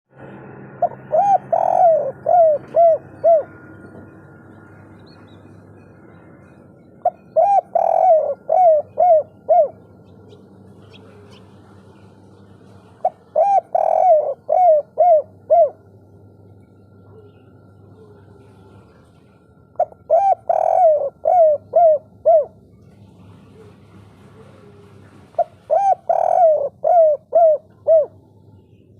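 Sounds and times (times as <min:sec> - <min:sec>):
dove cooing: 0:00.8 - 0:04.2, 0:06.9 - 0:19.0, 0:19.8 - 0:28.8.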